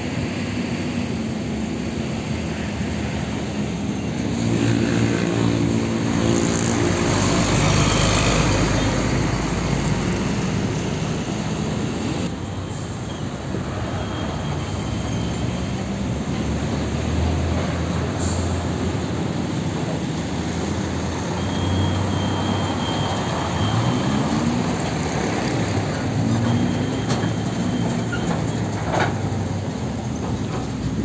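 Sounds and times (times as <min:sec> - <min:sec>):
truck diesel engine passing: 0:00.0 - 0:31.0
truck engine rumbling: 0:00.0 - 0:31.0.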